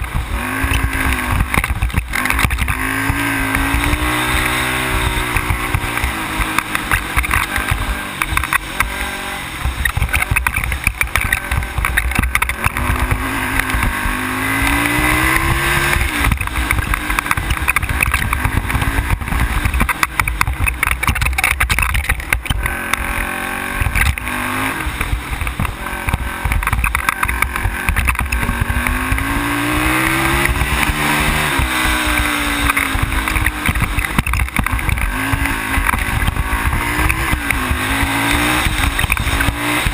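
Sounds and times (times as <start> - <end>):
atv engine revving: 0.0 - 39.9
wind rumble on microphone: 0.0 - 39.9.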